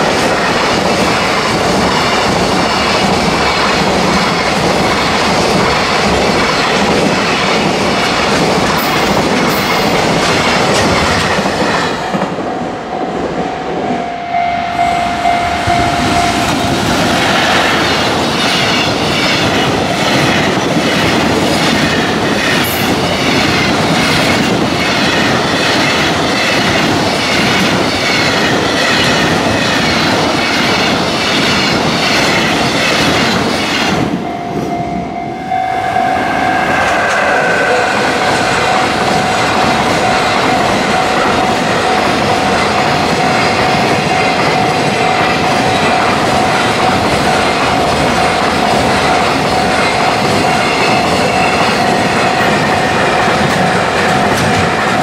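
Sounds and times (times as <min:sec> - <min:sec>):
train wheels clickety-clack: 0:00.0 - 0:12.5, 0:15.5 - 0:34.8, 0:36.6 - 0:55.0.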